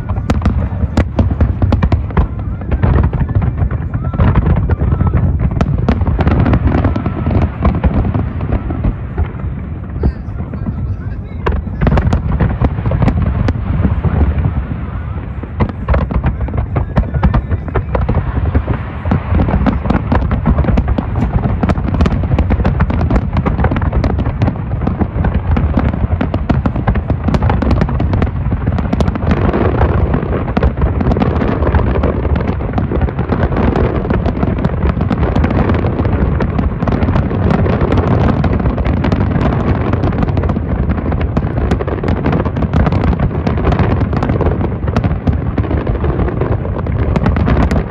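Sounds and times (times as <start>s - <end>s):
deep rumble of booms: 0.0s - 47.9s
fireworks bursting: 0.0s - 47.9s.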